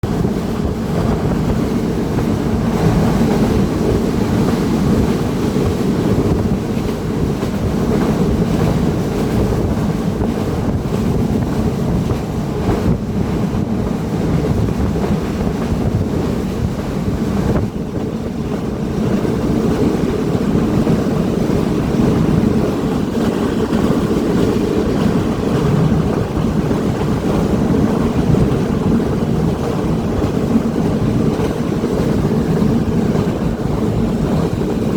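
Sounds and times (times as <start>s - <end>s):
train rumble: 0.0s - 34.9s
wind buffeting microphone: 0.0s - 34.9s.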